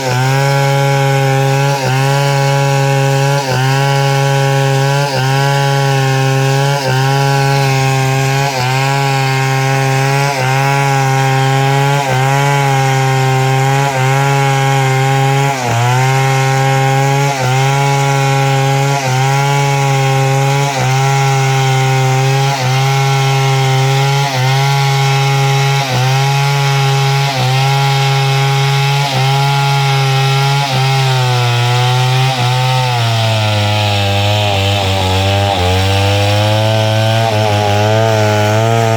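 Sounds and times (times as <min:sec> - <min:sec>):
chainsaw cutting through log: 0:00.0 - 0:38.9.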